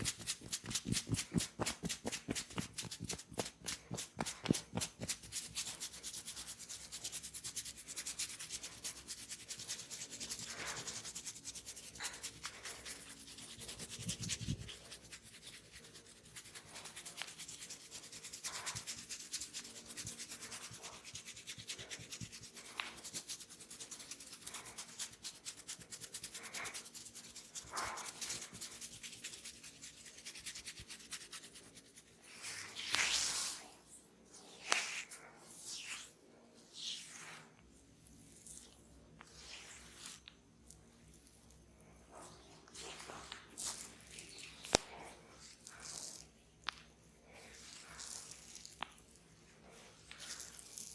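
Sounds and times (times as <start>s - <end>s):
hands rubbing through hair: 0.0s - 37.5s, 38.4s - 40.3s, 42.2s - 46.2s, 49.7s - 50.9s.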